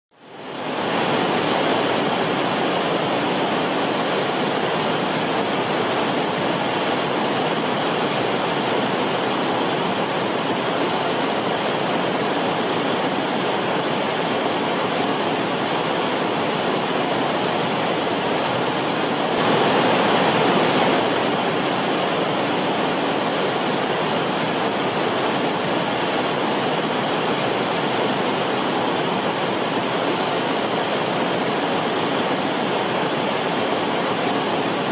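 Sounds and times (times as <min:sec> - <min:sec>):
stream water rushing: 0:00.2 - 0:34.9.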